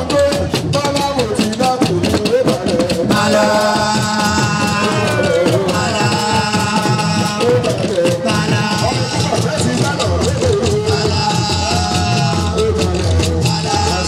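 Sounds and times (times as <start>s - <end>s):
percussion rhythm: 0.0s - 14.0s
person singing: 0.0s - 14.0s.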